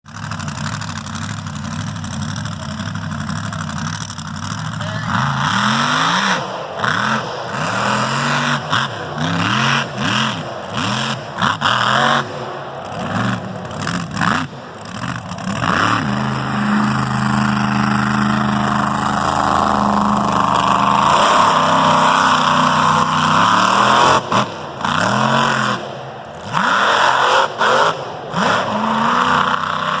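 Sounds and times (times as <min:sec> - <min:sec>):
truck engine revving: 0:00.1 - 0:30.0.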